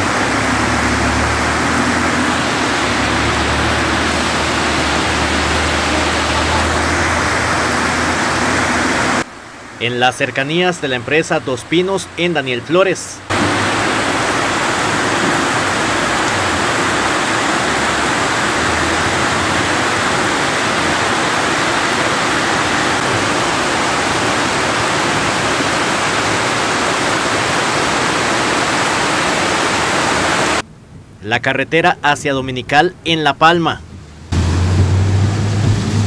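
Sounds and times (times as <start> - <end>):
heavy rain hiss: 0.0 - 30.6, 31.4 - 36.0.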